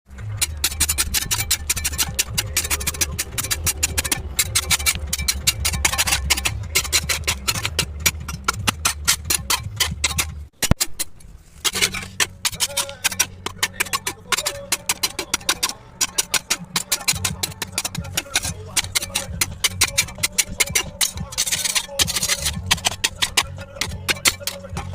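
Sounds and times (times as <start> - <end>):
music with clicking beat and bass: 0.1 - 11.1, 11.7 - 24.9.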